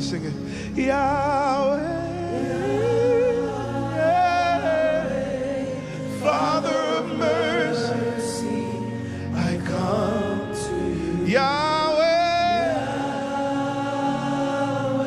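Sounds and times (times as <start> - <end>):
keyboard chords and bass: 0.0 - 15.0
voices singing gospel: 0.0 - 15.0.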